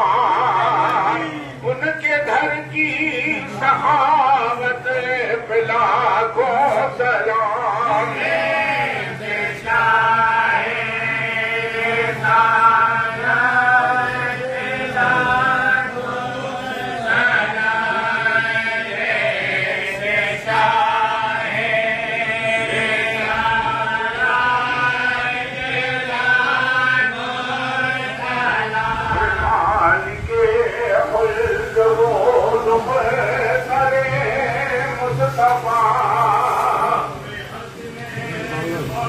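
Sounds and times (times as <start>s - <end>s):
men chanting in unison: 0.0s - 39.0s.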